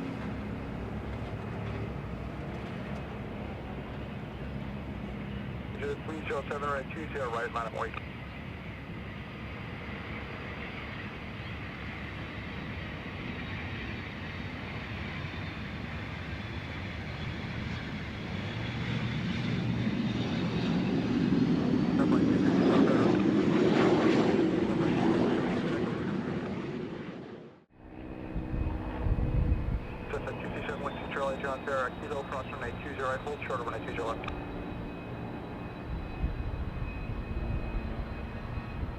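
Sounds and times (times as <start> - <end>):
aircraft engine passing by: 0.0 - 38.9.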